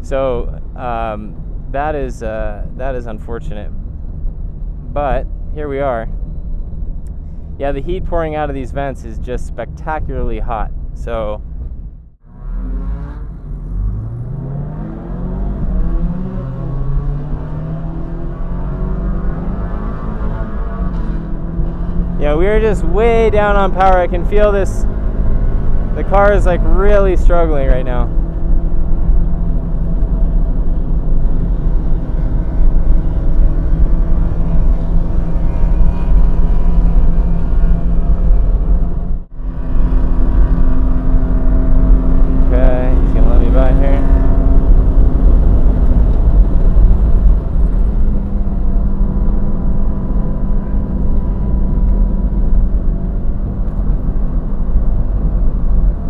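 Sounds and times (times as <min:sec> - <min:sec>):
car engine droning under load: 0:00.0 - 0:56.0
wind and road noise: 0:00.0 - 0:56.0.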